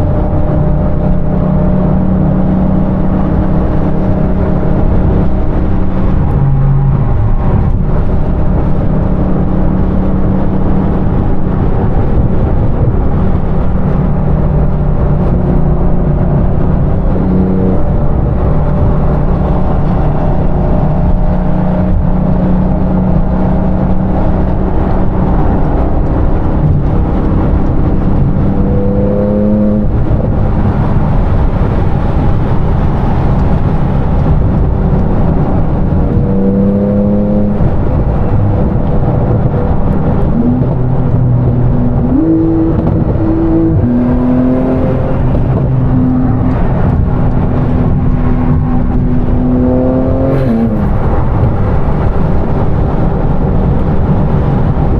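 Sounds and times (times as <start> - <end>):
car engine running: 0.0 - 54.9
road noise: 0.0 - 54.9.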